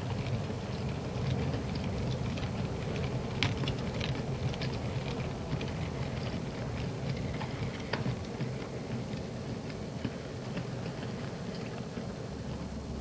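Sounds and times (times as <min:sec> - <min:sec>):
model train rumbling: 0:00.0 - 0:13.0
wheels clicking over rail joints: 0:00.0 - 0:13.0.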